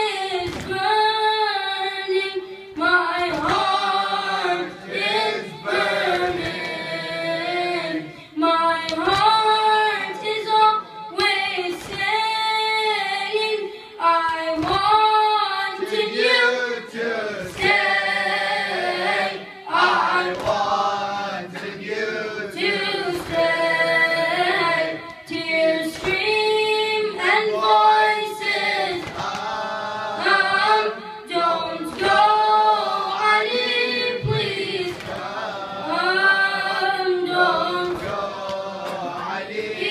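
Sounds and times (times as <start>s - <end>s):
boy chanting into a microphone: 0.0s - 21.2s, 22.3s - 39.9s.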